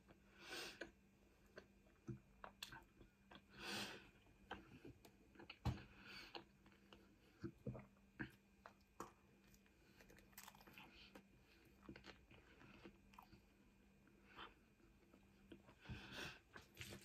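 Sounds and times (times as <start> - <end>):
faint chewing: 0.0 - 17.0.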